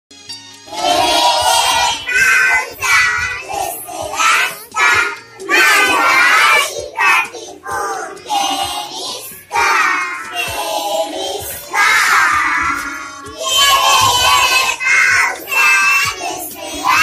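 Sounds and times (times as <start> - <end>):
young children singing: 0.7 - 17.0.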